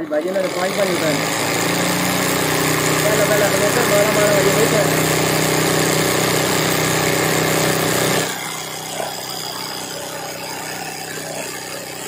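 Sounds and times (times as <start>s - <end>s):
sewing machine stitching rapidly: 0.0s - 12.0s.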